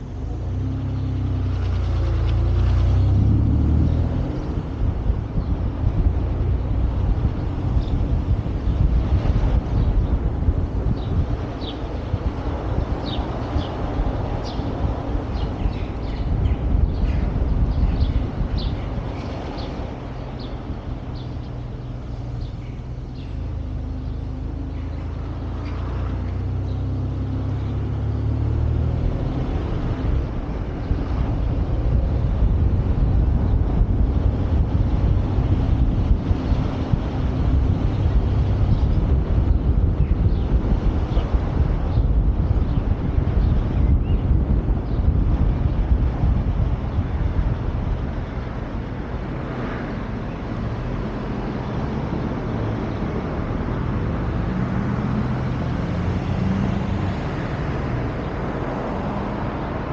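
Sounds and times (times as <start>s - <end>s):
deep engine hum: 0.0s - 59.9s
road and engine noise: 0.0s - 59.9s
wind rumbling on microphone: 0.0s - 59.9s.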